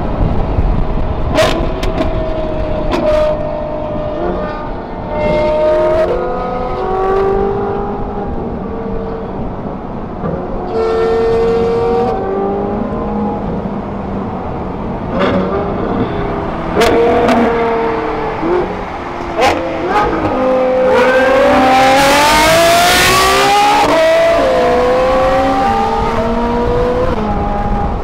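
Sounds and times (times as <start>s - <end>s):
sports car engines revving: 0.1s - 28.0s.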